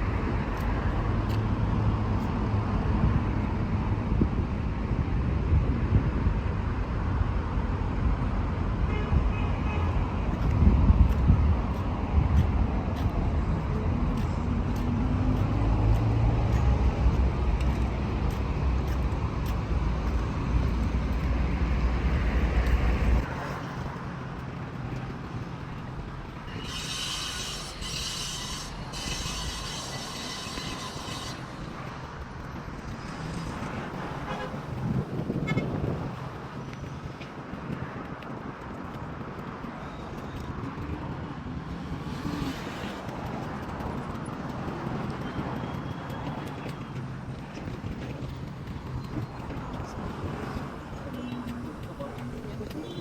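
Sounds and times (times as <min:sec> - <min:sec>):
street traffic rumble: 0:00.0 - 0:53.0.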